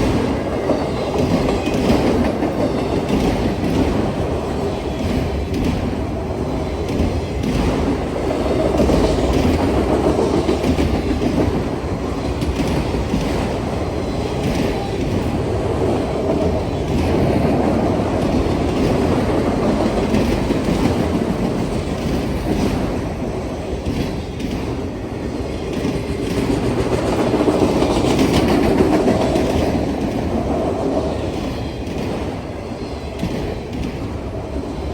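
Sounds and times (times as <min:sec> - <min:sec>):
freight train rolling past: 0:00.0 - 0:34.9.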